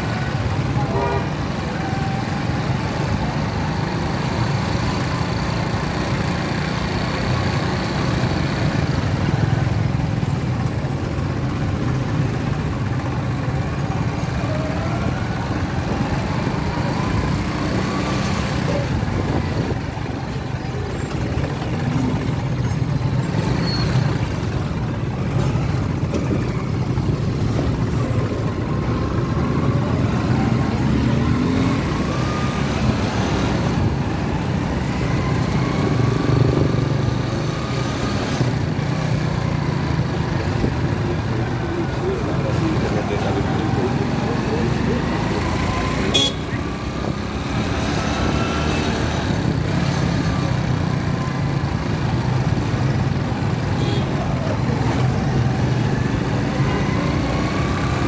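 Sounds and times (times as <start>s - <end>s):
motorcycle engines rumbling: 0.0s - 58.0s.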